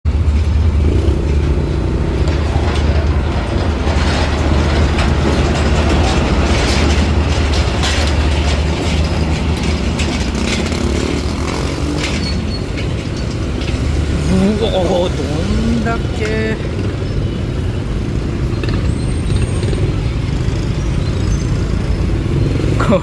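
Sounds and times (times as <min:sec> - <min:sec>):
diesel train engine rumble: 0:00.1 - 0:23.0
metallic clanks and rattles: 0:00.1 - 0:23.0.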